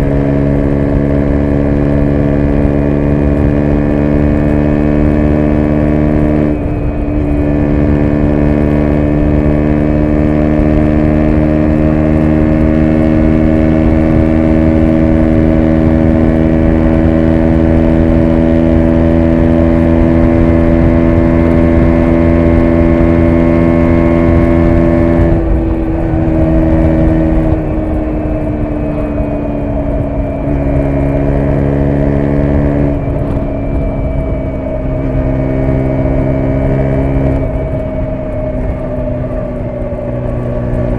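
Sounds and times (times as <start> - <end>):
motorcycle engine revving high: 0.0 - 40.9.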